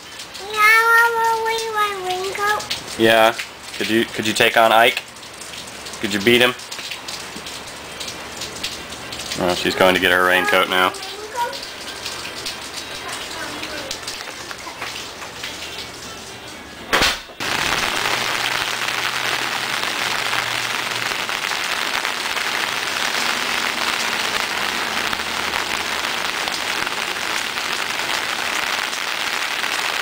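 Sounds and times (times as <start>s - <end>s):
steady rain on pavement: 0.0s - 30.0s.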